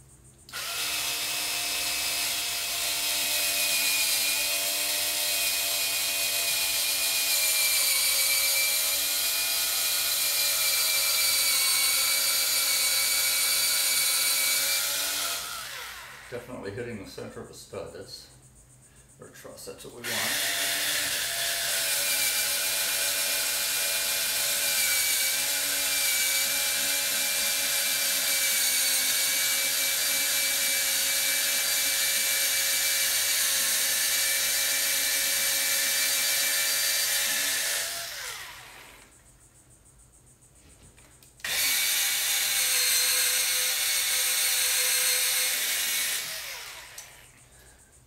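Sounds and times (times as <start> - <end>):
cordless drill boring into wood: 0.5 - 16.4, 20.0 - 39.1, 41.4 - 47.3.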